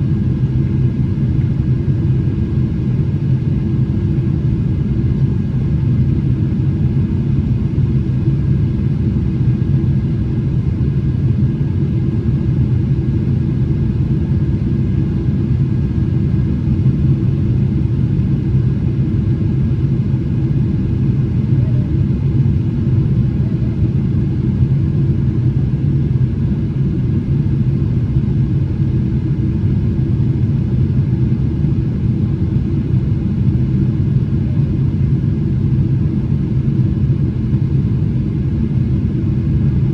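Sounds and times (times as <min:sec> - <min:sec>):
airplane cabin rumble: 0:00.0 - 0:39.9
steady hum: 0:00.0 - 0:39.9.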